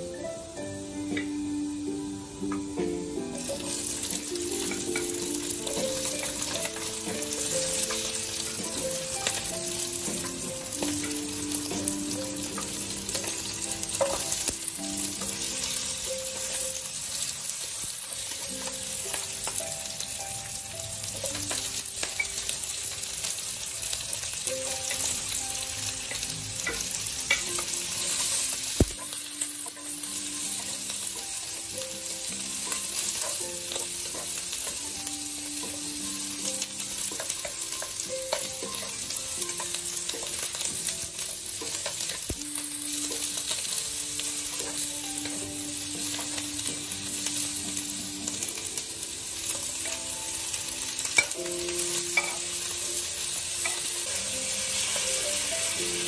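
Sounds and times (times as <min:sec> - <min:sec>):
soft background music: 0:00.0 - 0:56.0
vegetables sizzling in a wok: 0:00.0 - 0:56.0.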